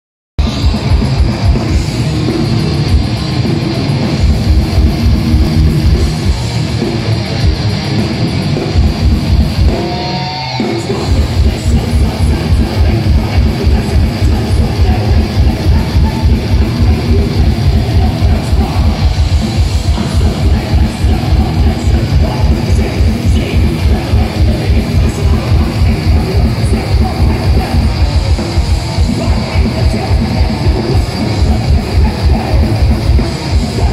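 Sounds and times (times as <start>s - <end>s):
metal band playing: 0.4s - 33.9s.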